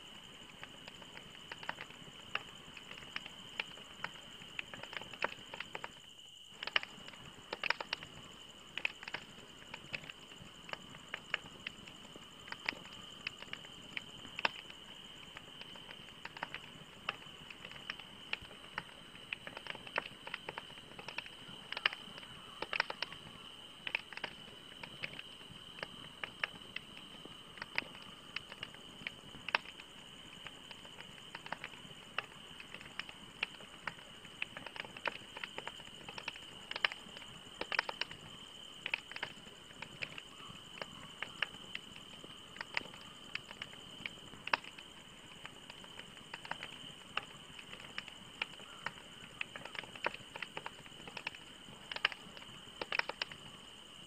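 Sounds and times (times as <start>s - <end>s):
wood fire crackling: 0.2s - 53.6s.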